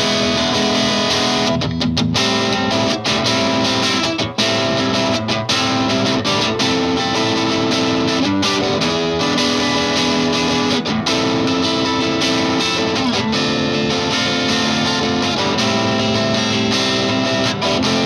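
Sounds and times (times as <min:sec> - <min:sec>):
distorted electric guitar chords: 0:00.0 - 0:18.0.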